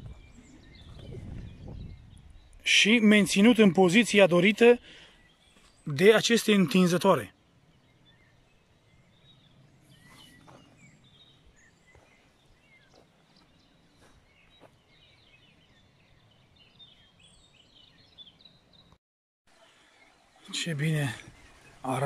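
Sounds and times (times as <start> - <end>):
bird chirps: 0.0 - 19.0.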